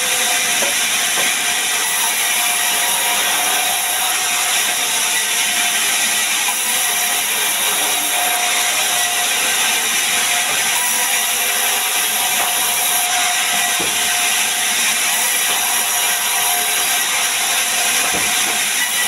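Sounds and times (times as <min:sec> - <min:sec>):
band saw cutting timber: 0:00.0 - 0:19.0.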